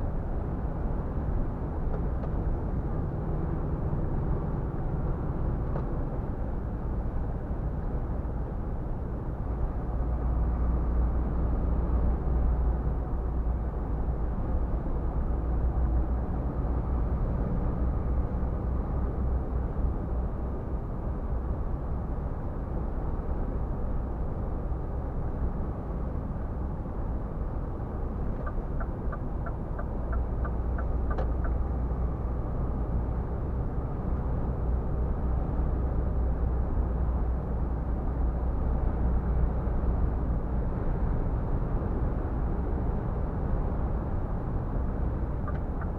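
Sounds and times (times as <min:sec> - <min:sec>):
truck engine and road rumble: 0:00.0 - 0:45.9.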